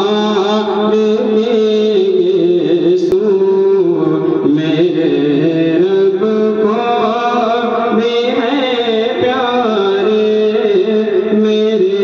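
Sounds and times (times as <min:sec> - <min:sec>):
man singing devotional poem: 0:00.0 - 0:12.0.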